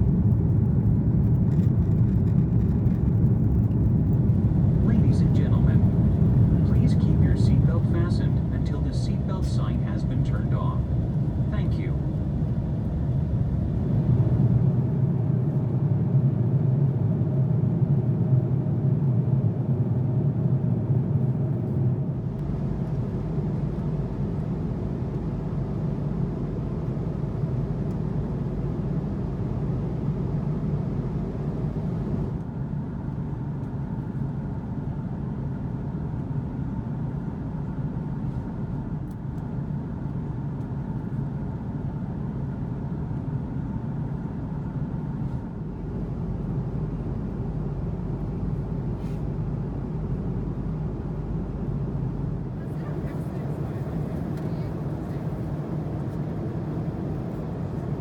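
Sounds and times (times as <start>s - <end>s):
jet airliner cabin rumble: 0.0s - 58.0s.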